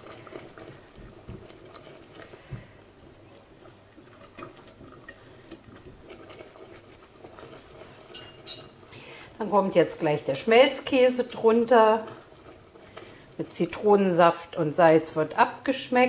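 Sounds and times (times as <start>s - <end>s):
wire whisk stirring: 0.0s - 2.4s, 3.7s - 8.9s, 9.7s - 15.2s
sauce simmering in a pot: 0.0s - 16.0s.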